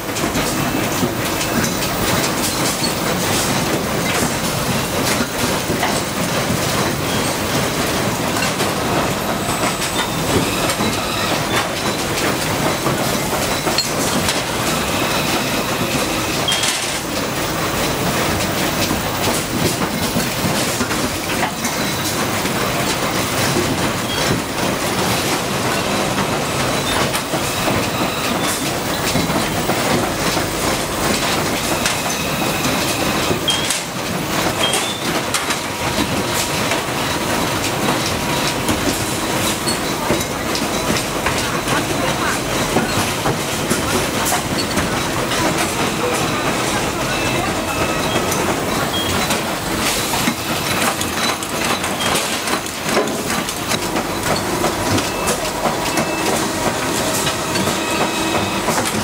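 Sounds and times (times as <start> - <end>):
production line machinery running: 0.0 - 59.0.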